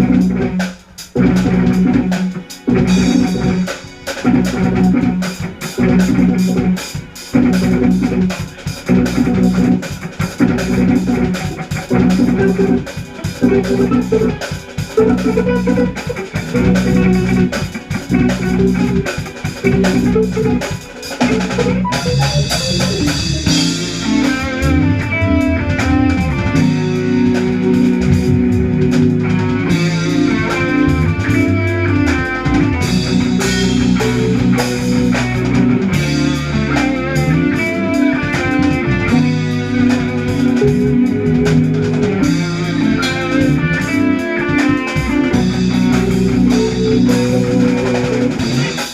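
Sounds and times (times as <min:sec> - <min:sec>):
jazz fusion band playing: 0:00.0 - 0:48.9.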